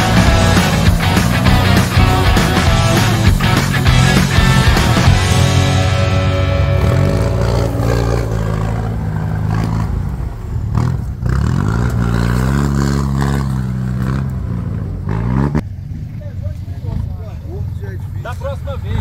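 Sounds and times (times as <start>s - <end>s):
off-road vehicle engine accelerating: 0.0s - 19.0s.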